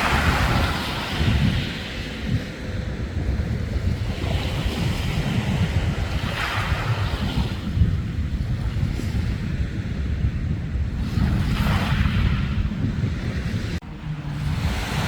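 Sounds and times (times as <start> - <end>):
sea waves washing onto beach: 0.0 - 10.2, 11.0 - 15.0
wind buffeting microphone: 0.0 - 15.0.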